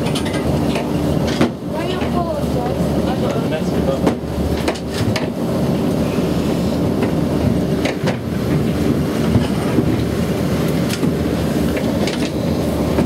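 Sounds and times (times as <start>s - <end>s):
gondola cabin rumble: 0.0s - 13.0s.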